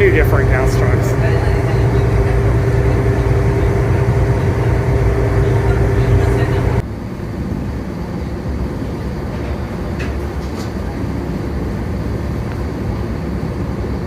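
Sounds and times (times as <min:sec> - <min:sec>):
ferry engine low rumble: 0:00.0 - 0:14.0.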